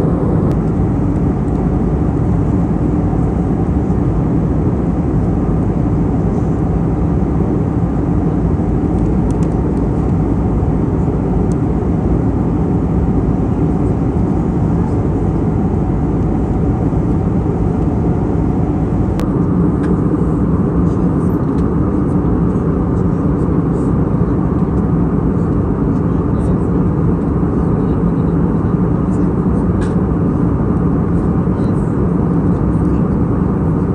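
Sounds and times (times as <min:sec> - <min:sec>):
airplane cabin engine drone: 0:00.0 - 0:33.9
low steady hum: 0:00.0 - 0:33.9.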